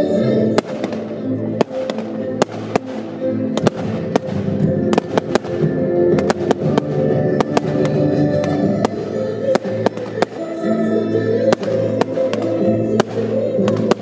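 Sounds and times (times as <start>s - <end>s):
music: 0.0s - 14.0s
fireworks bangs and cracks: 0.6s - 10.7s, 11.5s - 14.0s.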